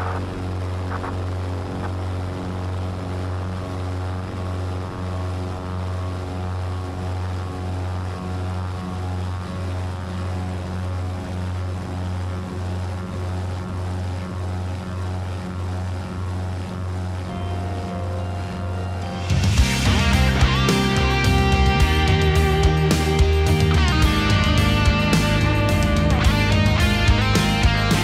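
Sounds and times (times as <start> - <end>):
propeller engines droning: 0.0 - 28.0.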